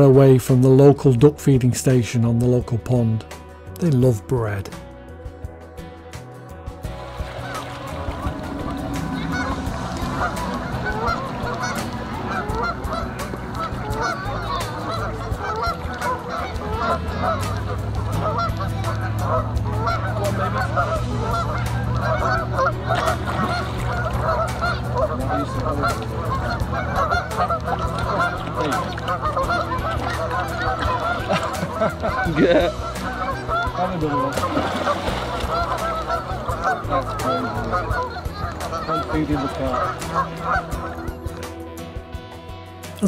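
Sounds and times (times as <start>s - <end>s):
waterfowl calling and honking: 6.9s - 42.2s.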